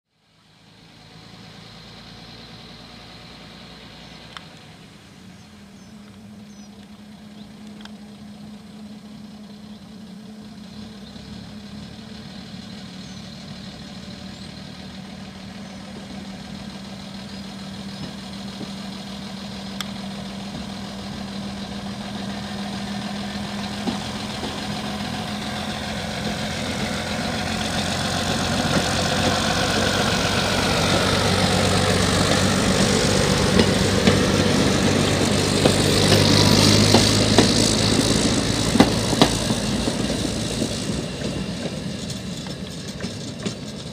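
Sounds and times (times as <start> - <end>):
diesel engine running: 0.2 - 43.9.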